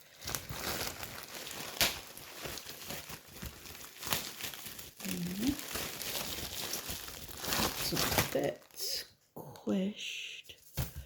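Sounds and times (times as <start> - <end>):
packaging crinkling: 0.0 - 9.0.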